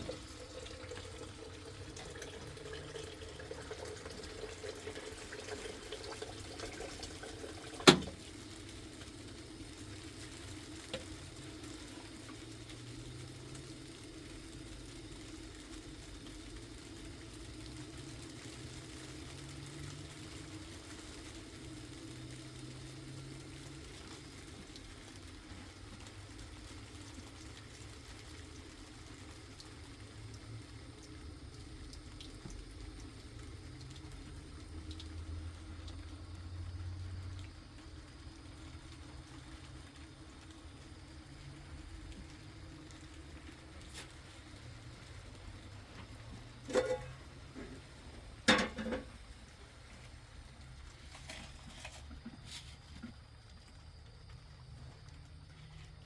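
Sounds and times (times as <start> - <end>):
steady watery sound: 0.0 - 56.0.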